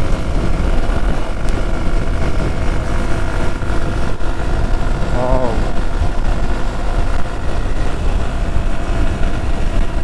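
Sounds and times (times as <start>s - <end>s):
motorcycle running at speed: 0.0s - 10.0s.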